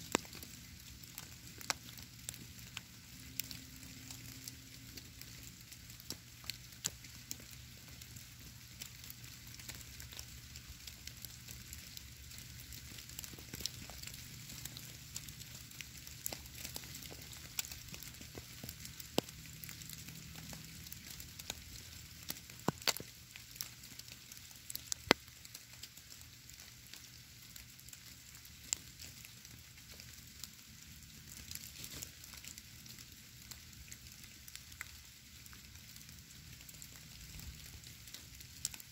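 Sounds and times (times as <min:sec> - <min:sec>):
snow crackling on ground: 0:00.0 - 0:38.9.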